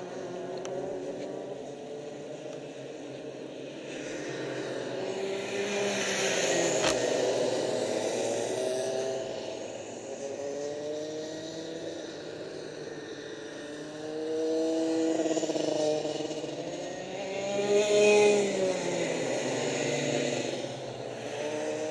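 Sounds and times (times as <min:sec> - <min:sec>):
kart engines passing by: 0:00.0 - 0:21.9.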